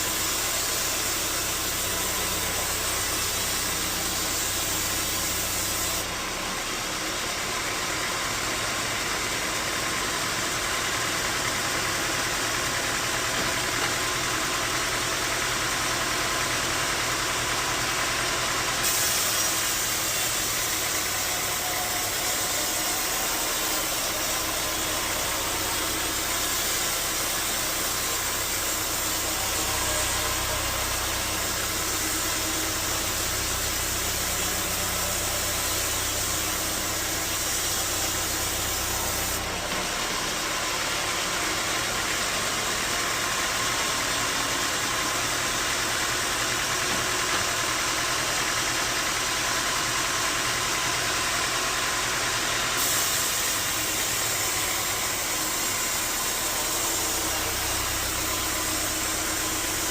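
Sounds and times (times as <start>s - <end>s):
sawmill running: 0.0s - 59.9s.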